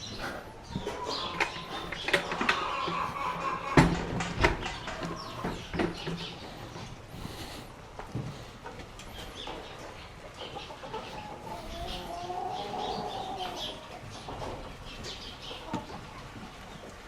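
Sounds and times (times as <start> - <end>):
drawn-out poultry call: 0.0 - 17.0
poultry clucking: 0.0 - 17.0.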